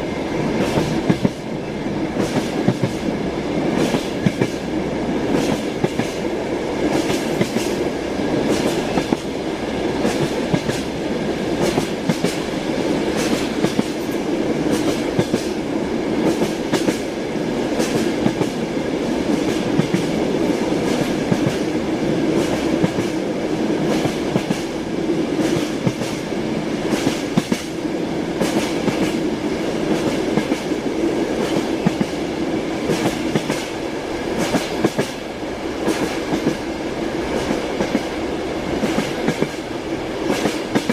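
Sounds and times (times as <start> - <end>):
train wheels clattering over rails: 0.0 - 40.9.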